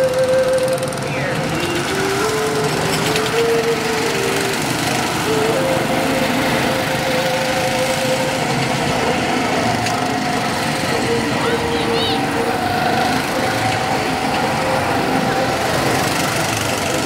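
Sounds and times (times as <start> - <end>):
go-kart engines droning: 0.0 - 17.0.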